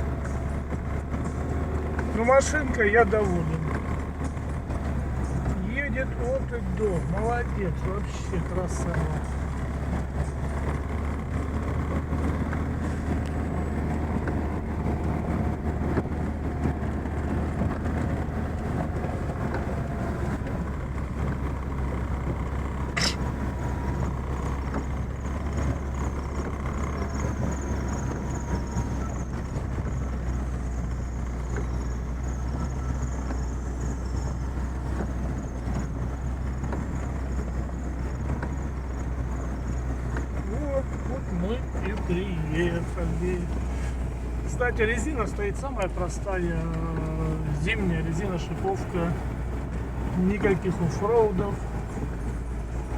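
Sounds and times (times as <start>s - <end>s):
car driving through snow: 0.0s - 52.9s.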